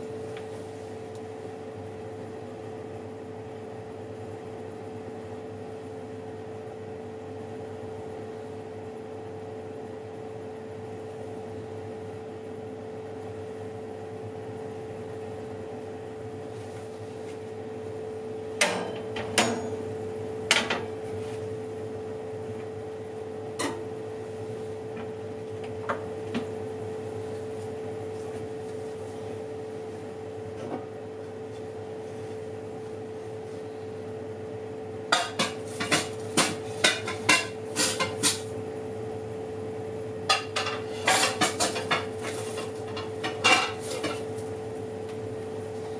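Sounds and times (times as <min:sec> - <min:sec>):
oven humming: 0:00.0 - 0:45.9.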